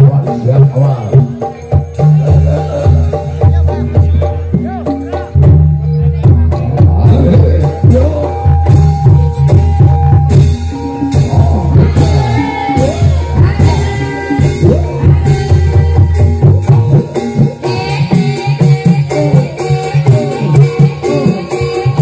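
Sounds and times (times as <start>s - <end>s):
drums over low beat: 0.0s - 22.0s
gamelan music: 0.0s - 22.0s
person singing: 0.0s - 22.0s.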